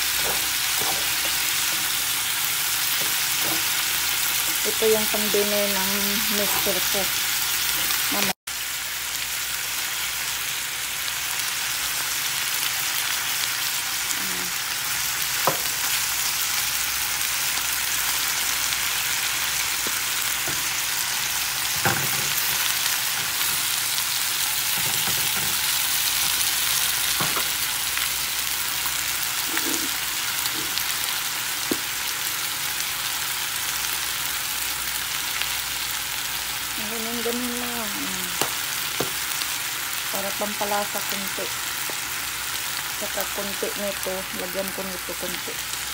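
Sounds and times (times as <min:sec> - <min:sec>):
food sizzling in a frying pan: 0:00.0 - 0:45.9.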